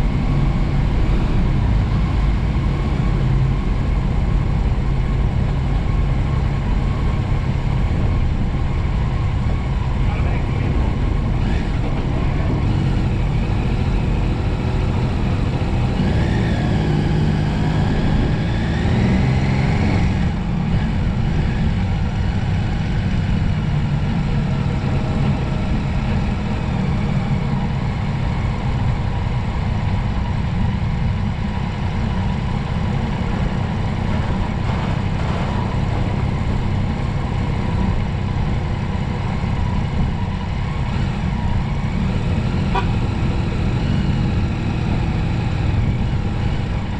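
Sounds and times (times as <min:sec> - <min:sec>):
motorcycle engine: 0:00.0 - 0:46.9
road noise: 0:00.0 - 0:46.9
wind noise: 0:00.0 - 0:46.9.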